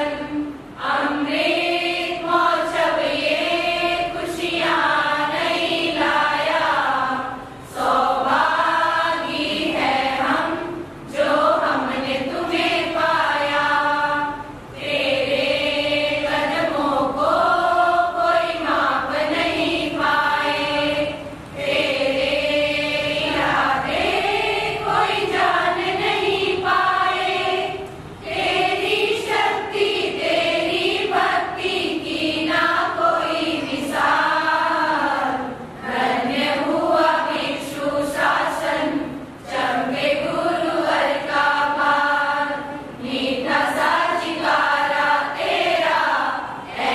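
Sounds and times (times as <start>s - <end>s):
women singing in unison: 0.0s - 46.9s.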